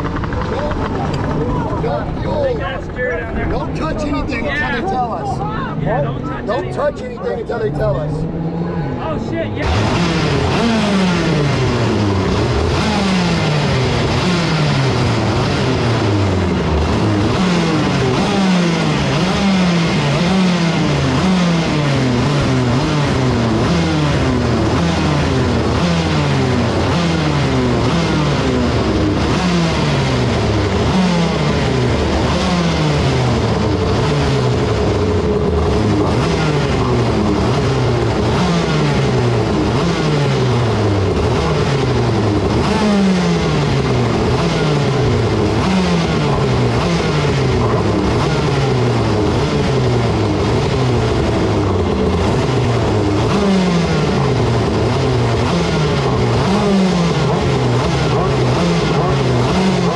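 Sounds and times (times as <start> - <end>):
kart engines revving: 0.0 - 59.9.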